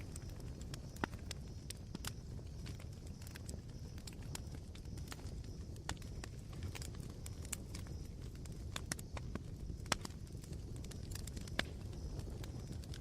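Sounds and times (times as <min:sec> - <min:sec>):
campfire embers crackling: 0:00.0 - 0:13.0.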